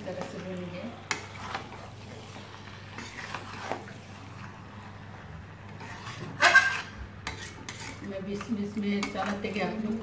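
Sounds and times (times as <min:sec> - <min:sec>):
metal spatula stirring in pan: 0:00.0 - 0:10.0.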